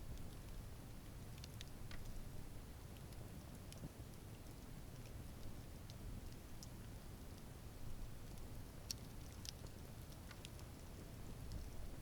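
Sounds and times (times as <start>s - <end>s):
low rumble of flames: 0.0s - 12.0s.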